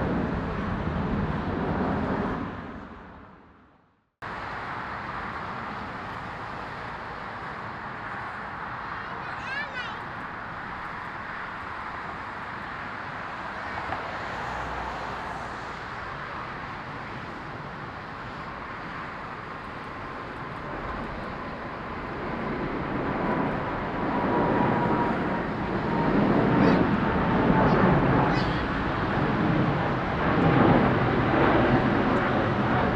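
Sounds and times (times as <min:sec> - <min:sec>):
jet engines rushing and whining: 0:00.0 - 0:32.9.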